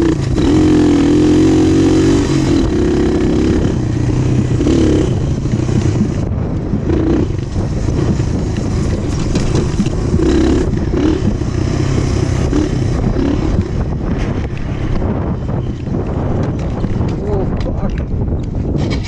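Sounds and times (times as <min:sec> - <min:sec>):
dirt bike engine: 0:00.0 - 0:19.0.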